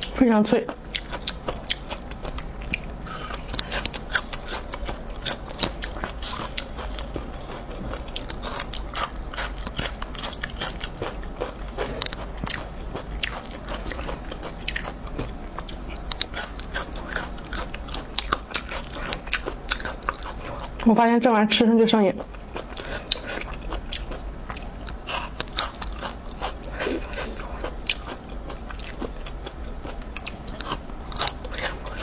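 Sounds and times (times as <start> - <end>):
crunchy chewing: 0.0 - 20.9, 22.2 - 32.0.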